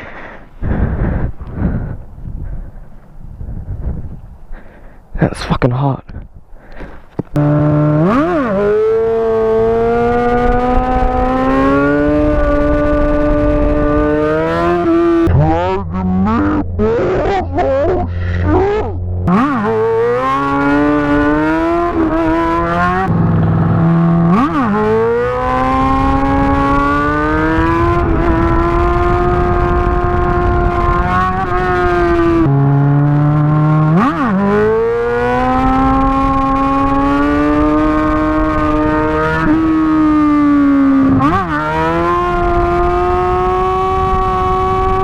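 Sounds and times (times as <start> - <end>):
motorcycle engine revving: 7.1 - 45.0.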